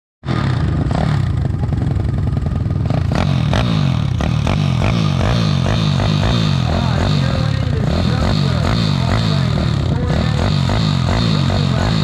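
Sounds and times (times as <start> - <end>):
motorbike engine revving: 0.2 - 12.0.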